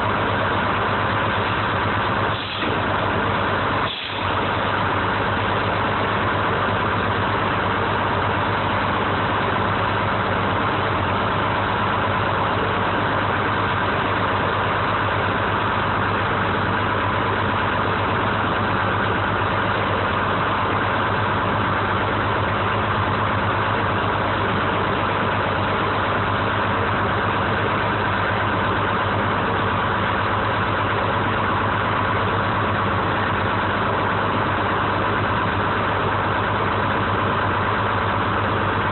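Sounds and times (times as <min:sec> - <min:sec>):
crane engine running steadily: 0:00.0 - 0:38.9.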